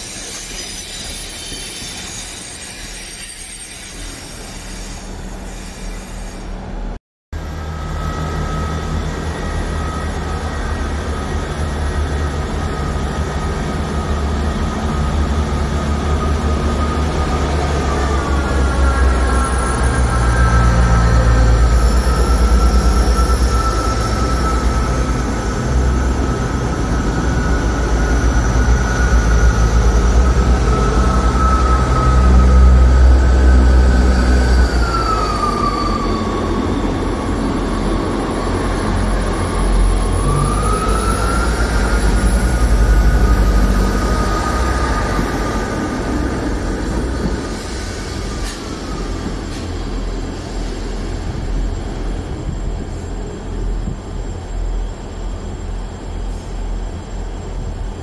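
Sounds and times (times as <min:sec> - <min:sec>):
high squeal of train wheels: 0:00.0 - 0:58.0.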